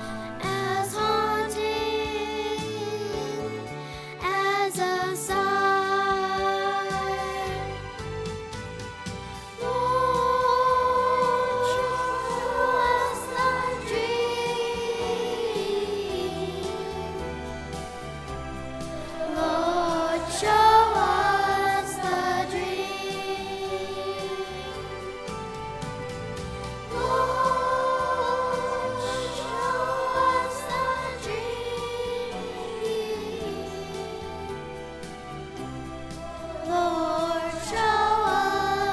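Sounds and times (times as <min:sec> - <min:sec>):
choir singing: 0:00.0 - 0:08.3, 0:09.0 - 0:38.9
musical accompaniment: 0:00.0 - 0:38.9.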